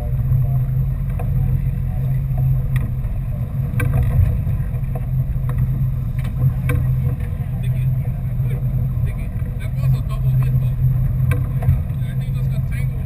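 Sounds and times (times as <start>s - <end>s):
boat engine running: 0.0s - 13.0s
water rumbling: 0.0s - 13.0s.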